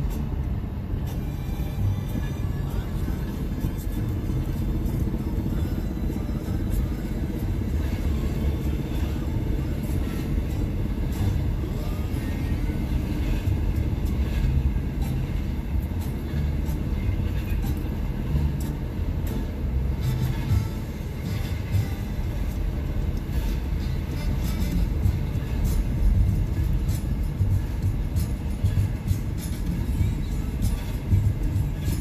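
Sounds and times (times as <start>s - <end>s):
vehicle rumble: 0.0s - 32.0s.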